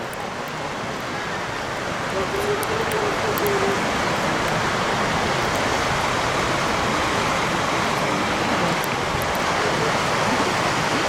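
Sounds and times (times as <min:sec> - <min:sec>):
fast-flowing creek rushing: 0:00.0 - 0:11.0.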